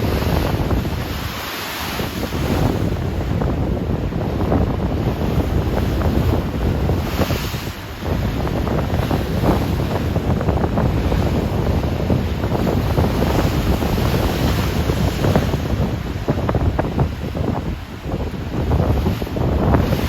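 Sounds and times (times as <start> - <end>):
ocean waves breaking: 0.0 - 20.0
wind on microphone: 0.0 - 20.0.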